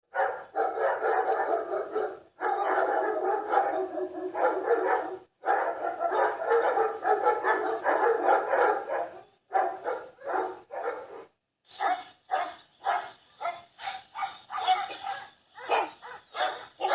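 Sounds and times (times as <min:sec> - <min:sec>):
dogs barking rapidly: 0:00.1 - 0:16.9.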